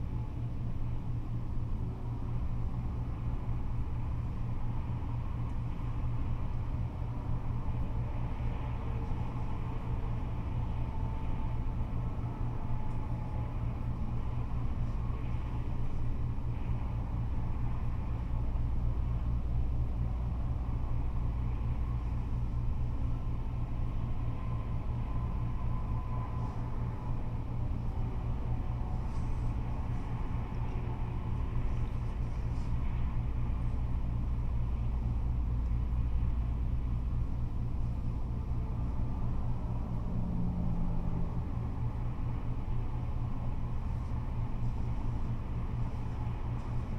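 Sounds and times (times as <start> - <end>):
faint whine: 0.0 - 46.9
freeway traffic rumble: 0.0 - 46.9.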